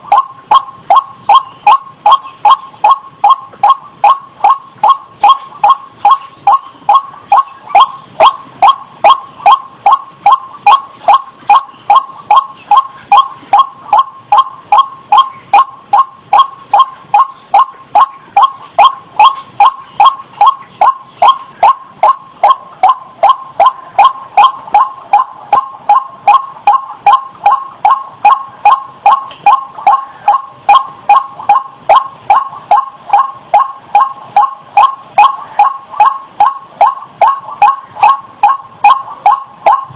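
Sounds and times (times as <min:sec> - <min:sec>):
waterhen calling: 0:00.0 - 0:39.9.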